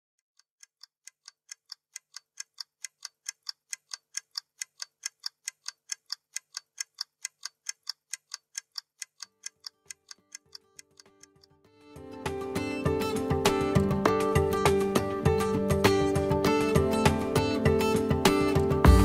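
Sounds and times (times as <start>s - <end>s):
stopwatch ticking: 0.2s - 11.5s, 12.3s - 18.8s.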